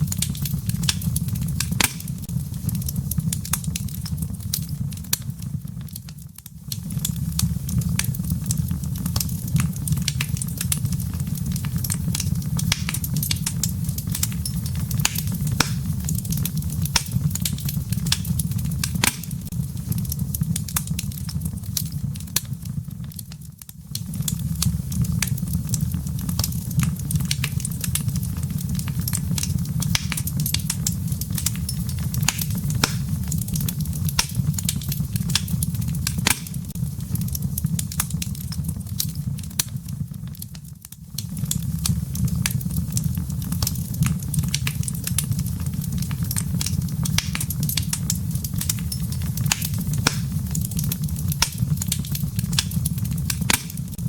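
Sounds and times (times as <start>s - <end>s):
firewood crackling and popping: 0.0s - 54.0s
low rumble of flames: 0.0s - 54.0s.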